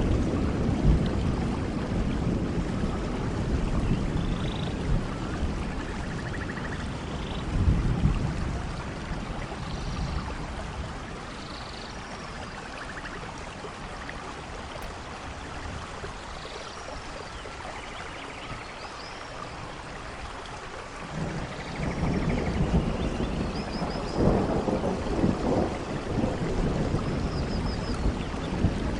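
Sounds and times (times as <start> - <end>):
rain falling: 0.0 - 28.9.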